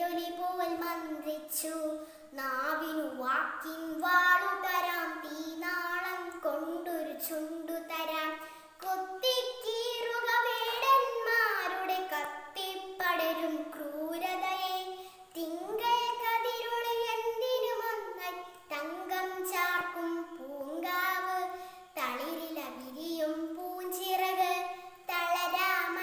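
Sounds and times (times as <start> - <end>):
girl singing: 0.0 - 26.0.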